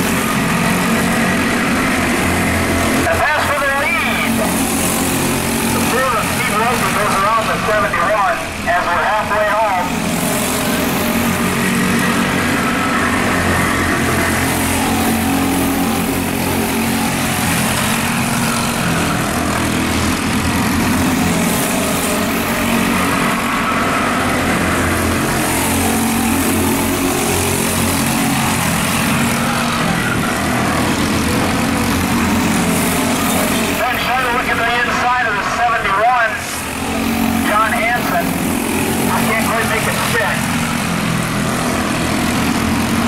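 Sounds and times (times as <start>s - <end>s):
go-kart engines droning: 0.0s - 43.0s.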